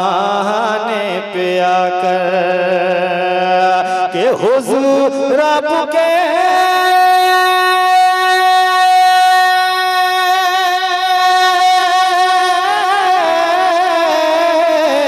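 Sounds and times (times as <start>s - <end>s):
man singing long note: 0.0s - 15.0s.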